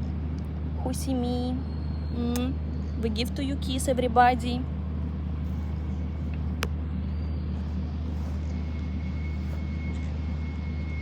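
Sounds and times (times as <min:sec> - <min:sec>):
low mechanical hum and rumble: 0:00.0 - 0:11.0.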